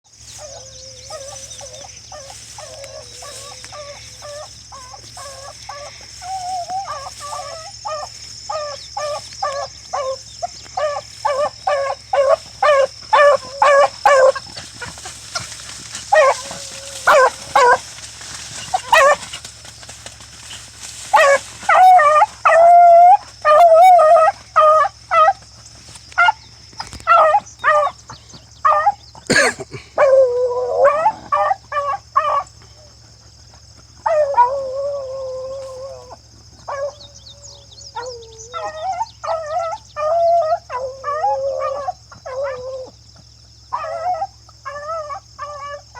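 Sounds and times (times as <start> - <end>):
hounds barking: 0.3 - 15.1, 16.1 - 17.9, 18.6 - 19.4, 21.1 - 25.4, 27.0 - 33.1, 34.0 - 42.9, 43.7 - 45.9
hounds bawling: 0.3 - 19.4, 21.1 - 25.4, 27.0 - 42.9, 43.7 - 45.9.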